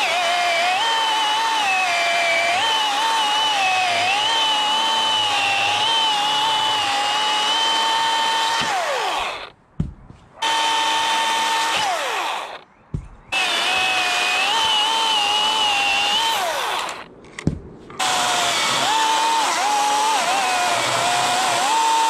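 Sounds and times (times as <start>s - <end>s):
battery chainsaw whining: 0.0s - 9.5s, 10.4s - 12.6s, 13.3s - 17.1s, 18.0s - 22.0s.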